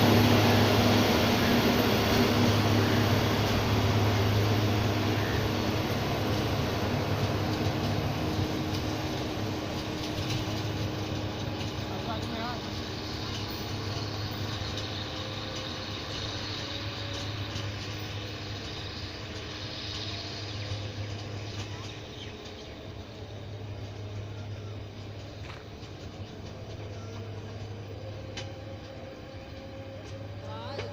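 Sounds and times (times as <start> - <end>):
machine engine drone: 0.0 - 30.9.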